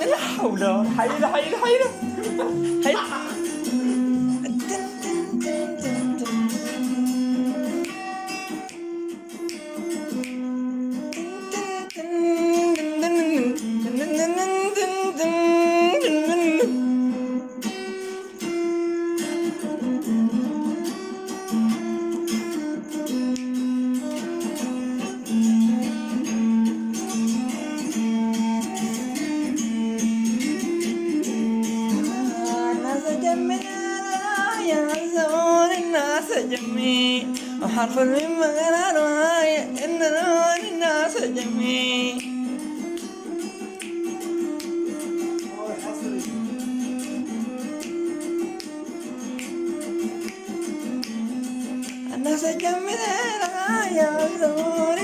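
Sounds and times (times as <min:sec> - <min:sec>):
plucked string instrument melody: 0:00.0 - 0:55.0.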